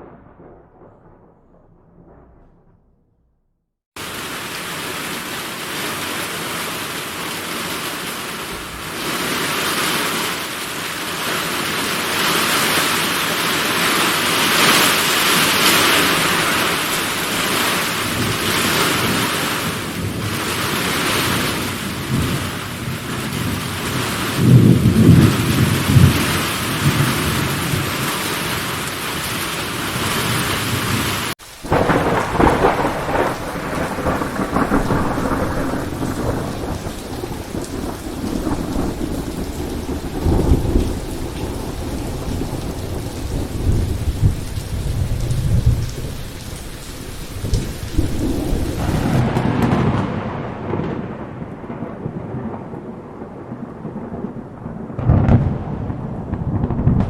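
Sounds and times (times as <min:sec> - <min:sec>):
thunder rolling: 0:00.0 - 0:04.8, 0:08.4 - 0:10.0, 0:13.4 - 0:28.6, 0:29.6 - 0:57.0
steady rain: 0:04.0 - 0:57.0.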